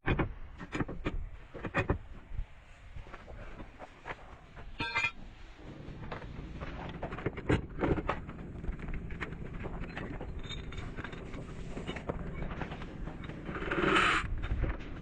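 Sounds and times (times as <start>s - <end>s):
knocks and clatters: 0.0s - 2.3s, 3.1s - 15.0s
low steady hum: 1.2s - 15.0s.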